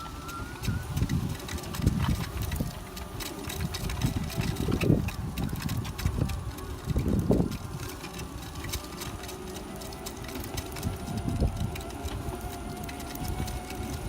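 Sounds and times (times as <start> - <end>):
electric motor whine: 0.0 - 14.0
wheel clicking and squeaking: 0.0 - 14.0.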